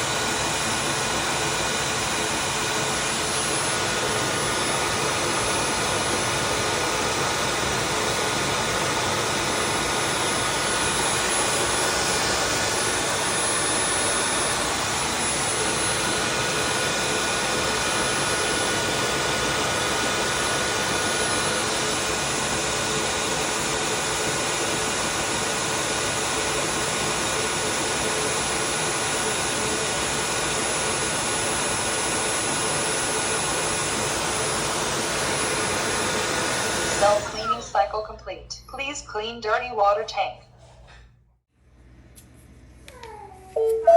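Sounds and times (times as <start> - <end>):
vacuum suction motor whining: 0.0 - 37.8.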